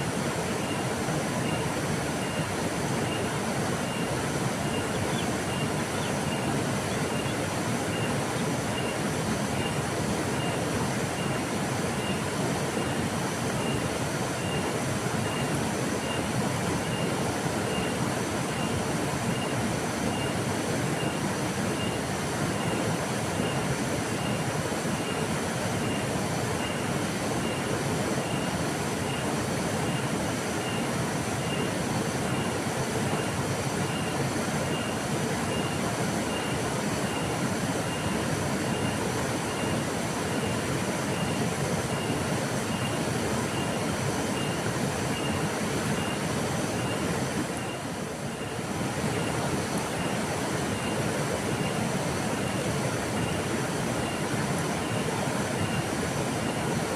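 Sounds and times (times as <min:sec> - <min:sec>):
river flowing: 0:00.0 - 0:56.9.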